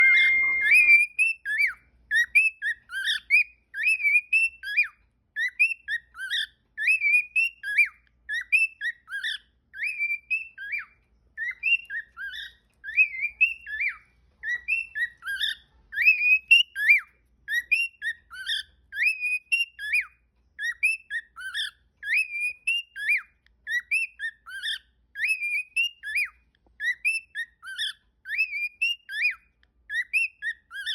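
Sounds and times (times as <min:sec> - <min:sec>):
cockatiel whistling: 0:00.0 - 0:30.9.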